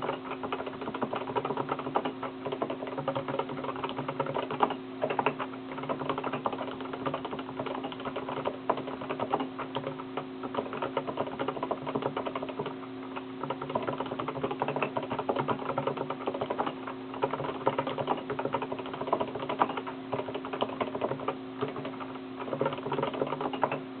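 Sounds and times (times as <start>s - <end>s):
keyboard typing clicks: 0.0s - 23.8s
low electrical hum: 0.0s - 24.0s.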